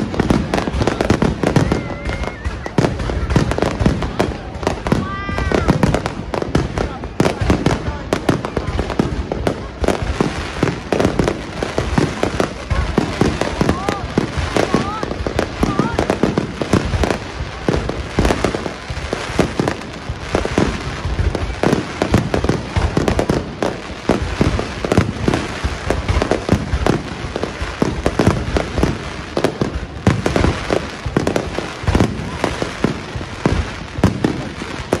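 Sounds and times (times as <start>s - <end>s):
fireworks bangs: 0.0s - 35.0s
fireworks crackling: 0.0s - 35.0s.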